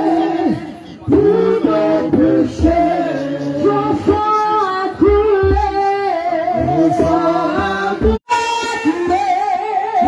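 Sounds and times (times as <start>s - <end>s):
voices singing a hymn with music: 0.0s - 10.0s.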